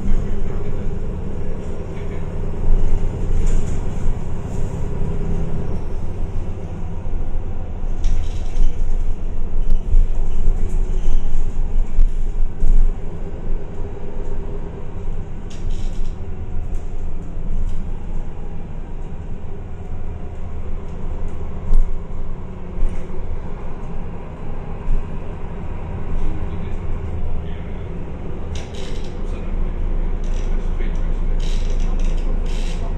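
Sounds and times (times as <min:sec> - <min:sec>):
bus engine and road rumble: 0:00.0 - 0:32.9.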